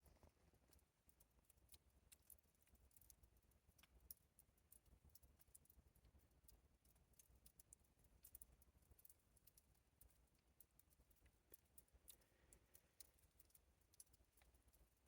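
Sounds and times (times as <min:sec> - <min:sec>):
water drips on rock: 0:00.0 - 0:15.0.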